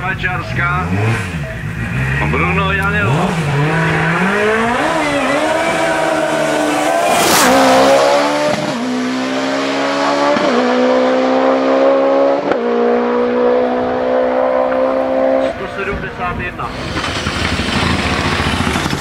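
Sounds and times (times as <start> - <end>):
rally car engine accelerating: 0.1 - 19.0.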